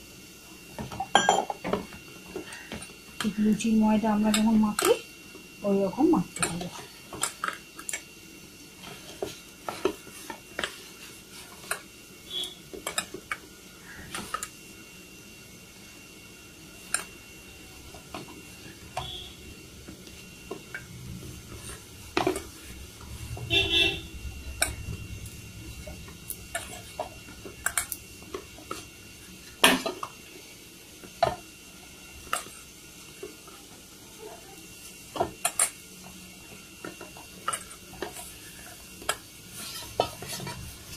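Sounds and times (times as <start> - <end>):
dough kneaded by hand in bowl: 5.6 - 14.6, 15.4 - 40.9.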